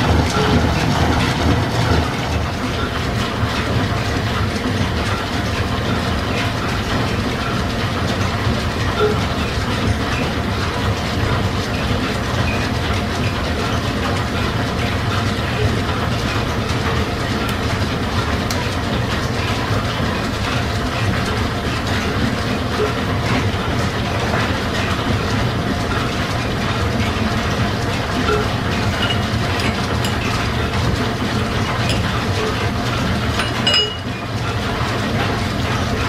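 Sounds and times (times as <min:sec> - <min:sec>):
line shafting and belts running: 0:00.0 - 0:36.0
mechanical clatter: 0:00.0 - 0:36.0.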